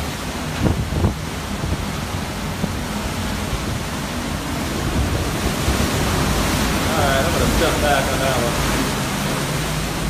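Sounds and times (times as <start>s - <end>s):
wind buffeting microphone: 0.0s - 10.0s
wind rushing: 0.5s - 10.0s.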